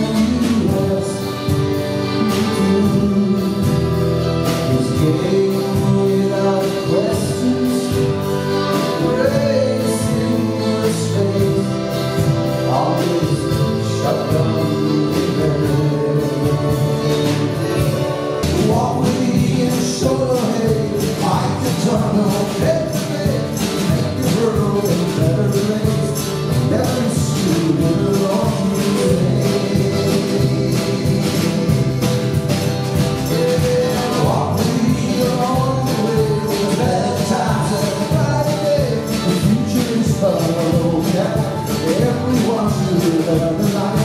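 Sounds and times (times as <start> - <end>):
accordion chords: 0.0 - 44.0
drum kit and cymbal beat: 0.0 - 44.0
folk band playing live: 0.0 - 44.0
voices singing: 0.0 - 44.0.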